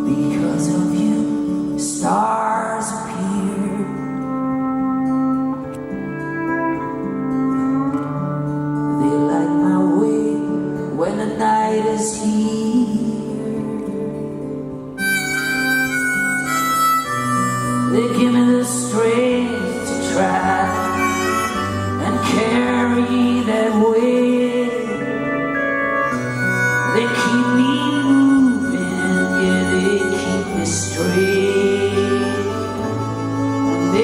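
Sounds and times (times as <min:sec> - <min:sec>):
held lead melody: 0:00.0 - 0:34.0.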